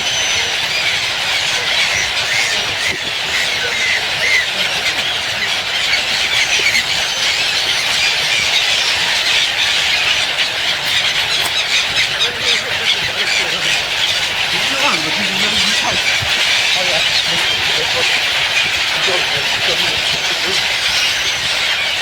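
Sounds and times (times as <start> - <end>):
flock of small birds chirping: 0.0 - 22.0.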